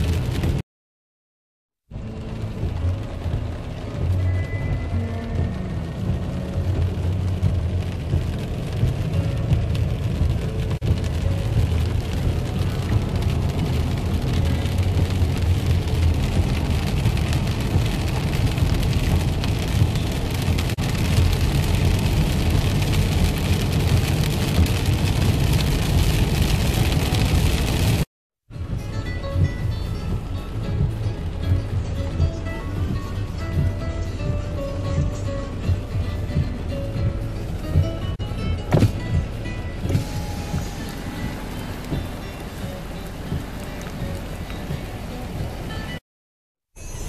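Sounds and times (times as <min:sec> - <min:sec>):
heavy rain pouring: 0:00.0 - 0:00.6, 0:01.9 - 0:46.0
low rumble: 0:01.9 - 0:45.7.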